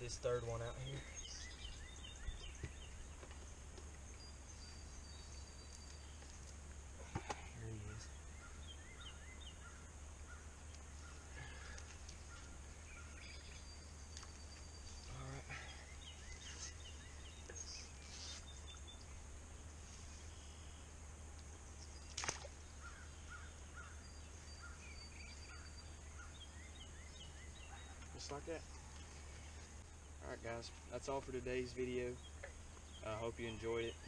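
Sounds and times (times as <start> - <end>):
faint high hiss: 0.0 - 27.6
birds chirping: 0.0 - 34.0.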